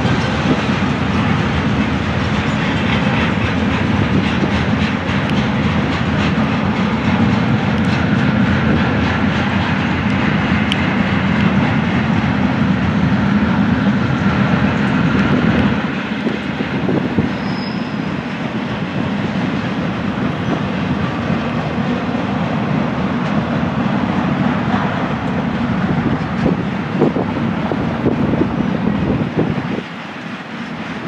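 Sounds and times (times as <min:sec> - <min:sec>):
freight train wheels rumbling on rails: 0:00.0 - 0:31.0.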